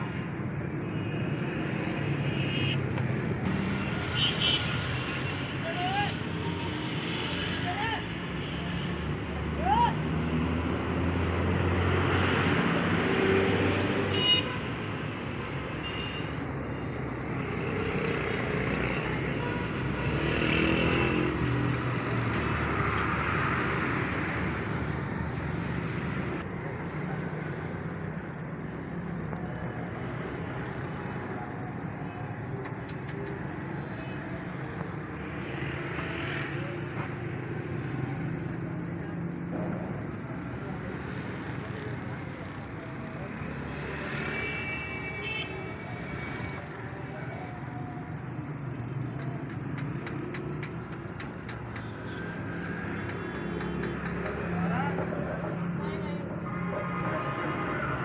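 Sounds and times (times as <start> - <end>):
road traffic: 0.0 - 58.0.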